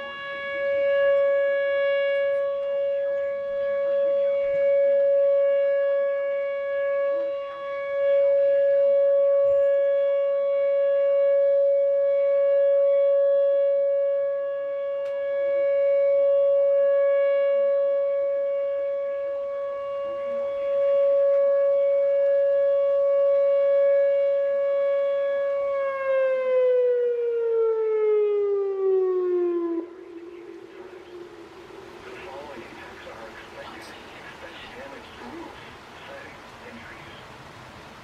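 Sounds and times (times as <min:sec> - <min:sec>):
warning siren steady tone: 0:00.0 - 0:38.0.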